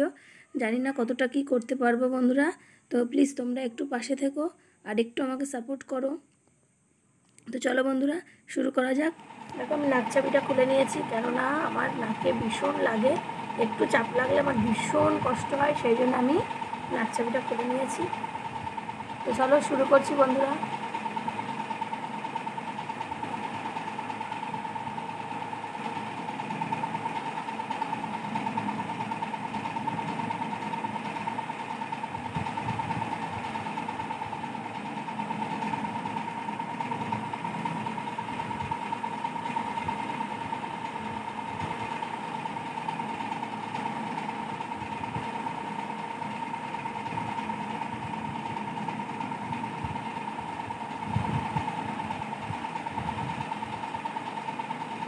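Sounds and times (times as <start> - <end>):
motor hum with high whine: 0.0 - 55.0.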